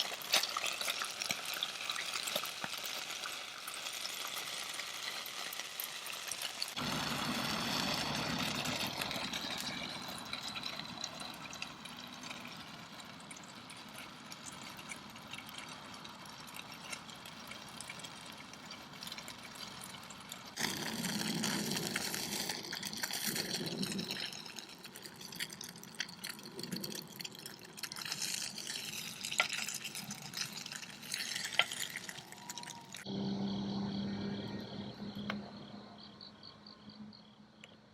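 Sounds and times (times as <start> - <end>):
water pouring: 0.0 - 33.1.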